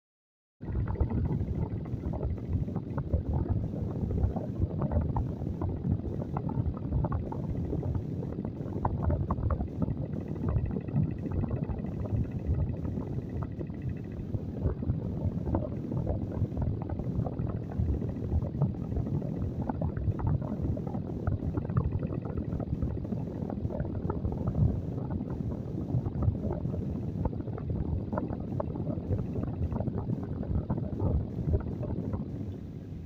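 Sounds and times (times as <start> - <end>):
wind buffeting microphone: 0.6 - 33.0.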